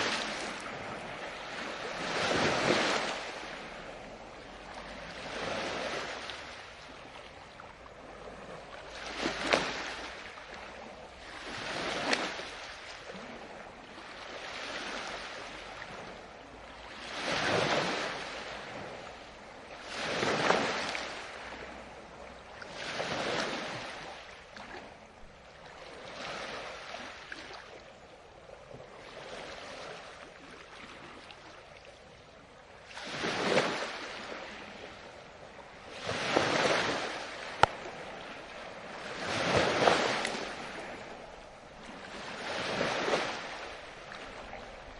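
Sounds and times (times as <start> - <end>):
ocean waves breaking: 0.0 - 44.9.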